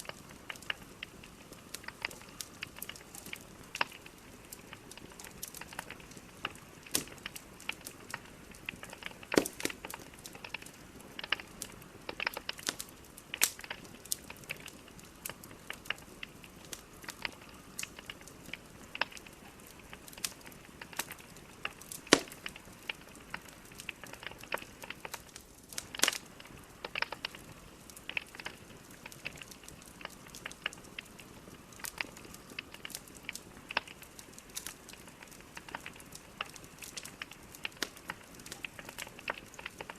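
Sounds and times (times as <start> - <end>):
logs crackling and popping: 0.0 - 39.9
wood fire hissing: 0.0 - 39.9.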